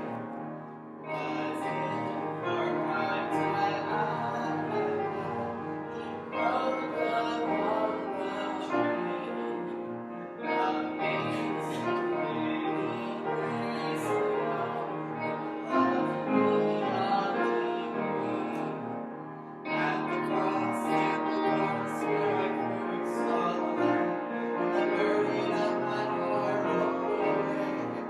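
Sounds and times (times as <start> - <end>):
piano accompaniment: 0.0 - 28.0
slow hymn singing: 0.0 - 28.0.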